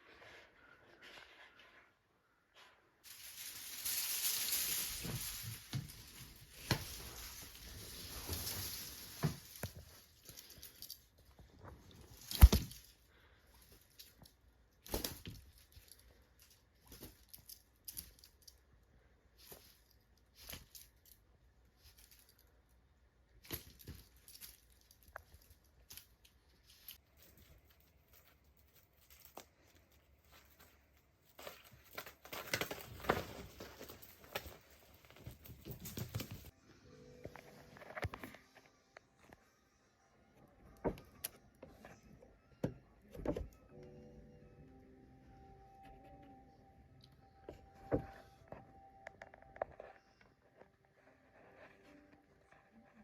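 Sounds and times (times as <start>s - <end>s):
rustling and crinkling toys: 0.0s - 39.6s, 45.7s - 53.0s.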